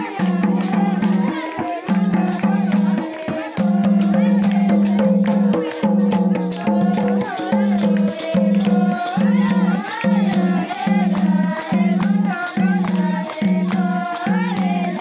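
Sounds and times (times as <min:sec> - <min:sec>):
group singing folk song: 0:00.0 - 0:15.0
hand drum: 0:00.0 - 0:15.0
jingling tambourine: 0:00.0 - 0:15.0.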